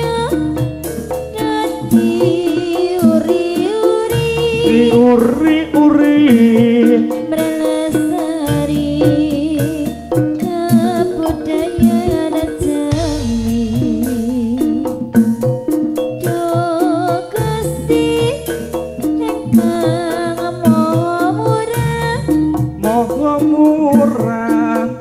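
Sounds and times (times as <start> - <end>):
held pitched tones: 0.0 - 25.0
sharp percussion strikes: 0.0 - 25.0
wavering melody line: 0.0 - 25.0.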